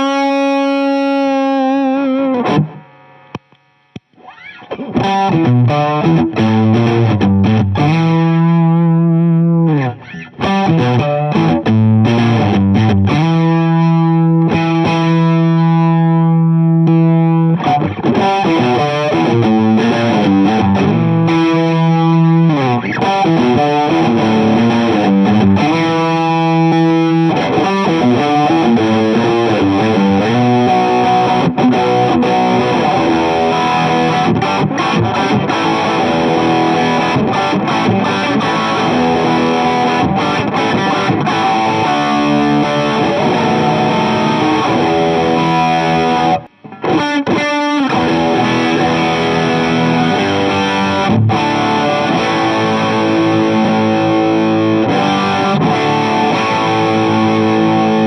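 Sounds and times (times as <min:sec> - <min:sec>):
overdriven electric guitar: 0:00.0 - 0:58.0.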